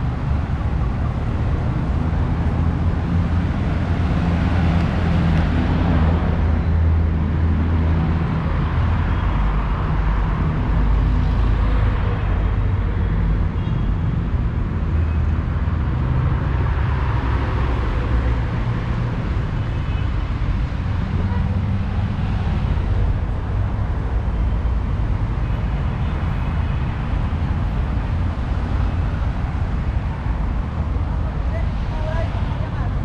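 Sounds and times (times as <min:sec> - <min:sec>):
road traffic: 0:00.0 - 0:33.0.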